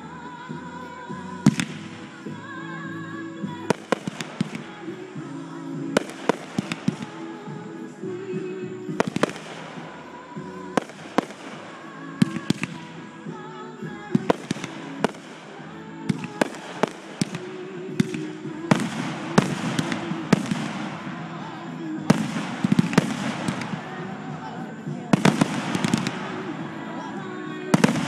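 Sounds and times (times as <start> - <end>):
fireworks bangs: 0.0 - 28.0
music with long held notes: 0.0 - 28.0.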